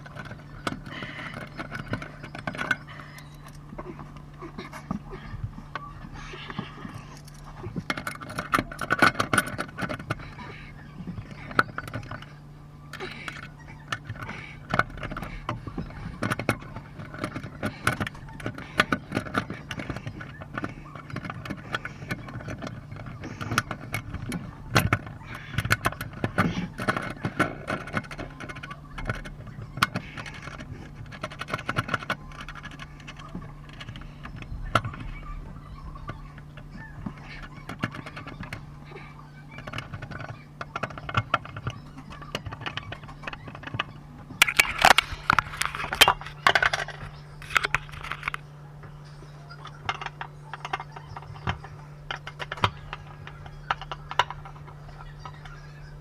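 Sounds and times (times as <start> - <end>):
metal tools clinking and rattling: 0.0 - 56.0
steady low hum: 0.0 - 56.0.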